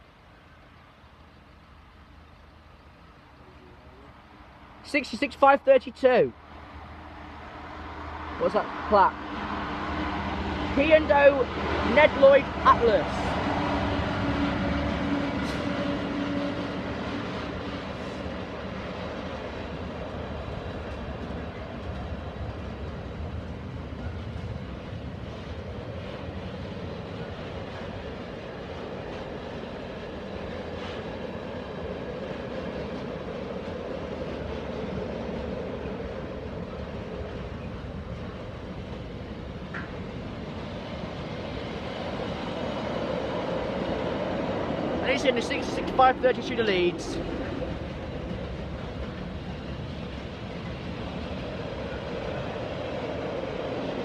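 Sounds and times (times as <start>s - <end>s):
freight train wagons rumbling: 0.0s - 54.0s
locomotive hum: 0.0s - 54.0s.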